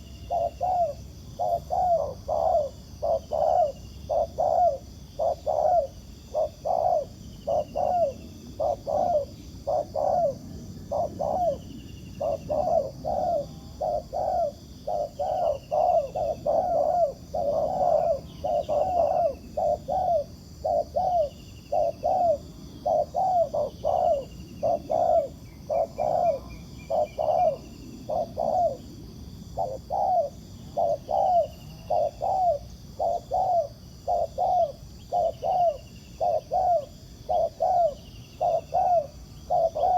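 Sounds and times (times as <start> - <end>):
small birds chirping: 0.0 - 28.9, 29.6 - 39.9
doves cooing: 0.0 - 39.9.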